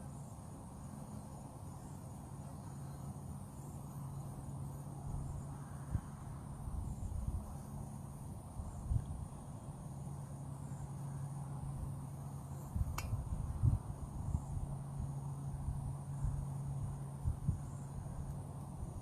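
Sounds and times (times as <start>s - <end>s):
high-pitched insect chorus: 0.0s - 19.0s
low steady hum: 0.0s - 19.0s.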